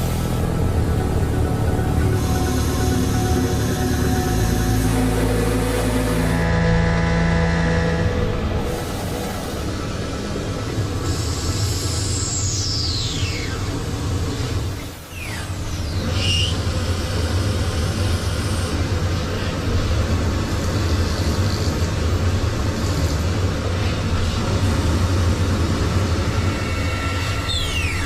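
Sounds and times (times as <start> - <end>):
machine hum with noisy rush: 0.0 - 28.0.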